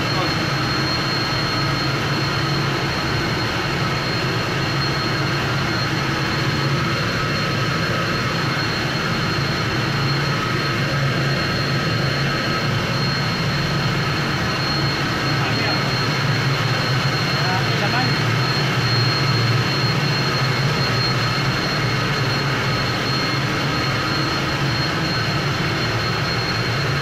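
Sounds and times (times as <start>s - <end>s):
engine room machinery drone: 0.0s - 27.0s.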